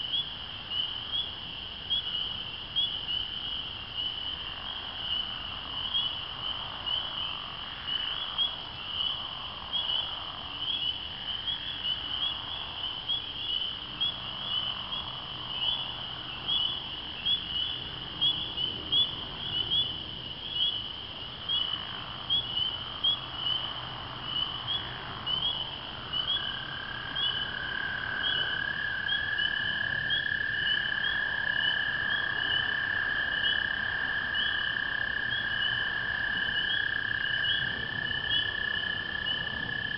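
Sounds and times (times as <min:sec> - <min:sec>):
frogs peeping chorus: 0:00.0 - 0:39.9.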